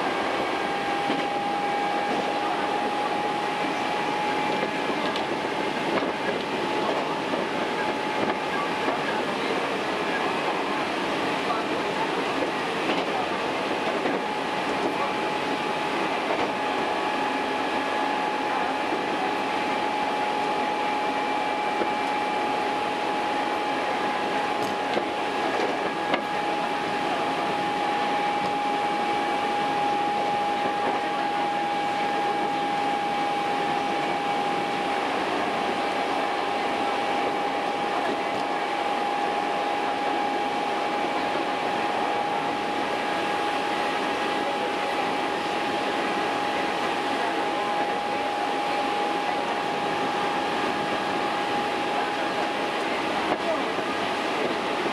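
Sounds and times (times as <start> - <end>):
train rolling noise: 0.0 - 54.9.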